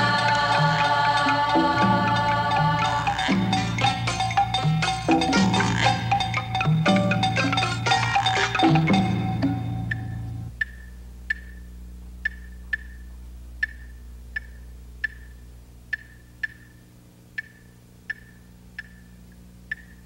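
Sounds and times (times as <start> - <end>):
claves clicking rhythm: 0.0 - 20.0
low steady hum: 0.0 - 20.0.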